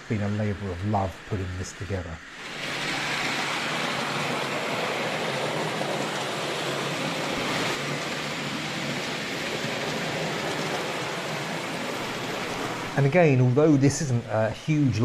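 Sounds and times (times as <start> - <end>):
model train wheels rumbling on track: 0.0 - 15.0.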